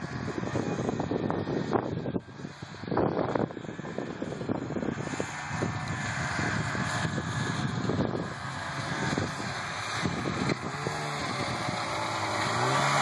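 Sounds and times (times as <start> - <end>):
snowmobile engine approaching: 0.0 - 13.0.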